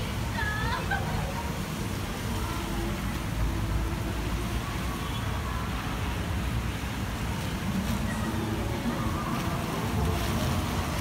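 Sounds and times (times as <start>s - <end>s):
traffic on wet road: 0.0s - 11.0s.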